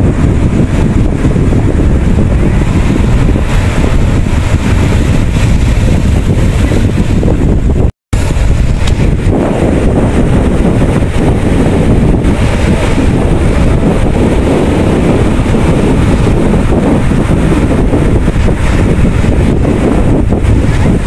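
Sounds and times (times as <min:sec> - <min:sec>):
sea waves breaking on rocks: 0:00.0 - 0:21.0
wind buffeting microphone: 0:00.0 - 0:21.0.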